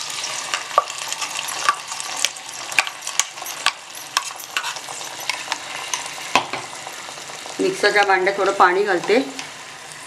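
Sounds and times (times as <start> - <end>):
hot oil sizzling and popping: 0.0 - 10.0.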